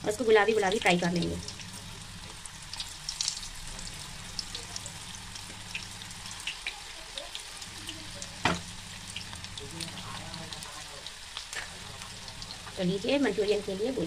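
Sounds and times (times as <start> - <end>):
food deep-frying in hot oil: 0.0 - 14.0.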